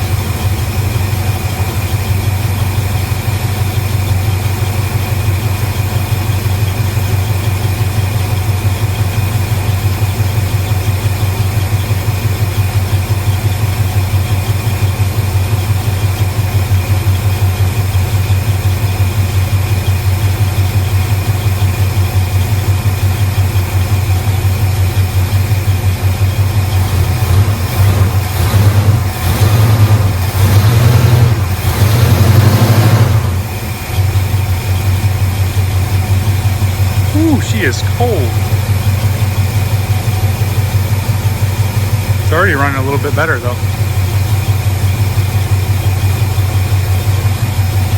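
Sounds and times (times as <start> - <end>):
truck engine idling and revving: 0.0 - 47.9.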